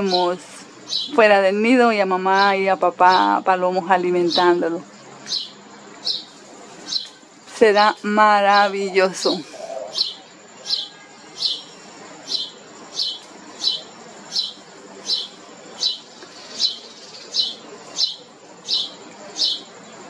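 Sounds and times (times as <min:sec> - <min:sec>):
small bird chirping: 0:00.0 - 0:01.5, 0:02.2 - 0:19.9.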